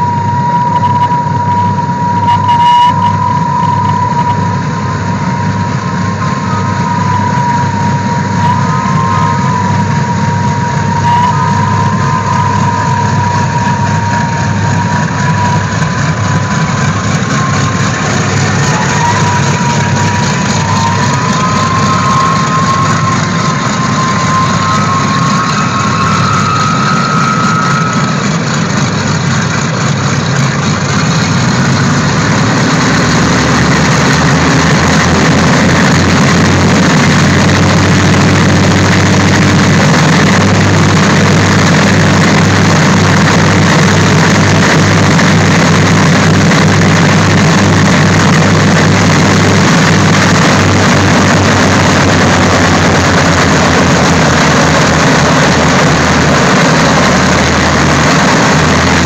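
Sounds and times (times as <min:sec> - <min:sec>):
propeller engines droning: 0:00.0 - 0:59.0
thin rising whine: 0:00.0 - 0:59.0.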